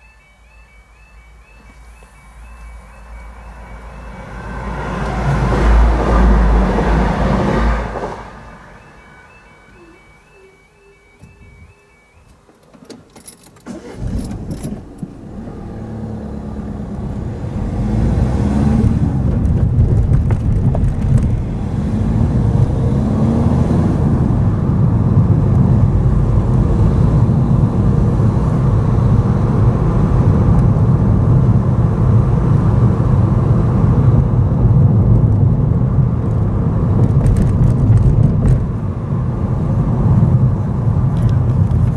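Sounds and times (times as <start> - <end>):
car engine accelerating: 0.5 - 12.0, 13.6 - 41.9.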